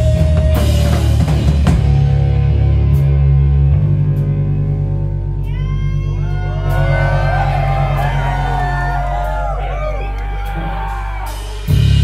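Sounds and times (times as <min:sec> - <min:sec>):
rock band sustained chord: 0:00.0 - 0:12.0.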